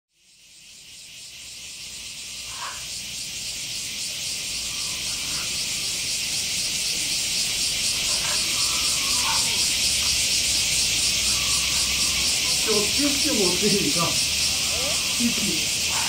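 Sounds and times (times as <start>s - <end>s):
cicada chorus: 0.1s - 16.0s.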